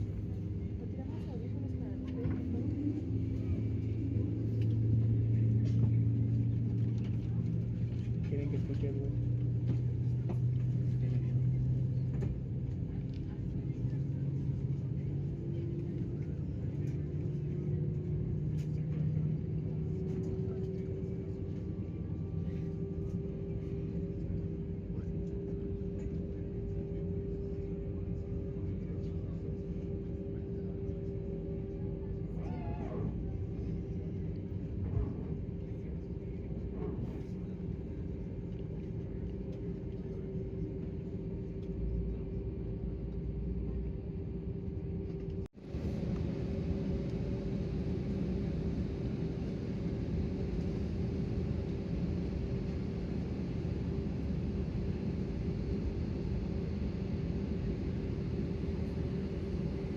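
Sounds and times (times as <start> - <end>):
airplane cabin engine hum: 0.0 - 59.9.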